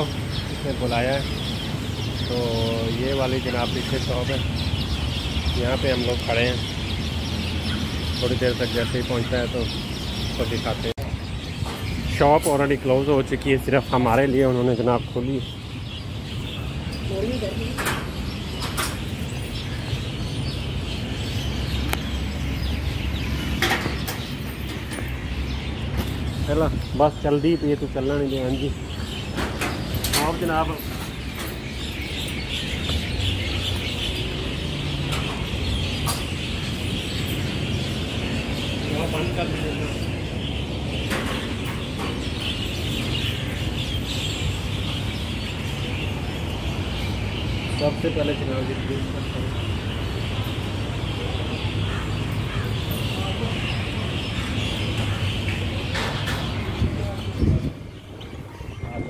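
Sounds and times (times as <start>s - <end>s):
low rumble of street ambience: 0.0s - 59.0s
many birds chirping: 0.0s - 59.0s.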